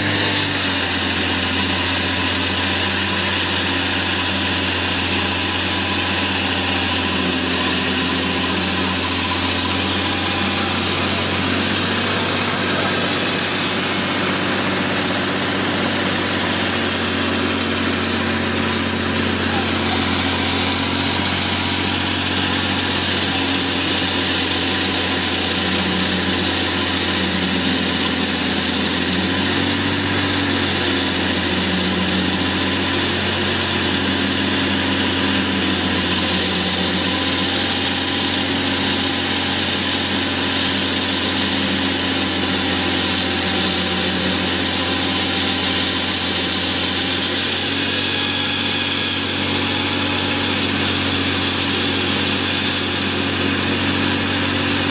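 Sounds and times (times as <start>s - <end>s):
concrete saw diesel engine running: 0.0s - 54.9s.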